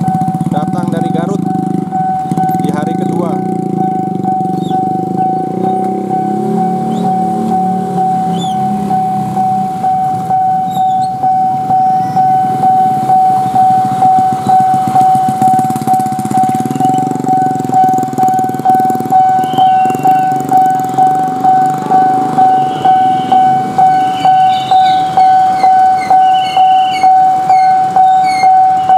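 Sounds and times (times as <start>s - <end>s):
level crossing warning bell: 0.0s - 28.9s.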